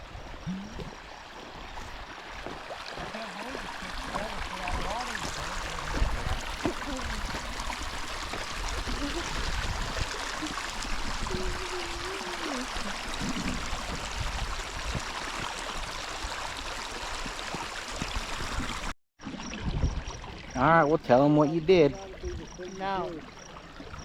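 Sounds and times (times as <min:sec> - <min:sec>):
water running through ditch: 0:00.0 - 0:24.0.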